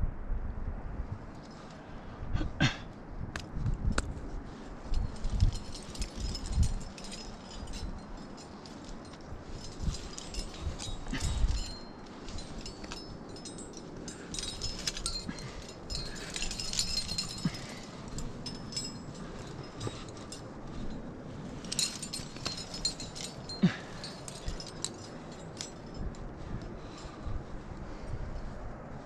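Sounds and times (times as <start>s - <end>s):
metal climbing gear jangling: 1.3s - 2.0s, 3.4s - 28.6s.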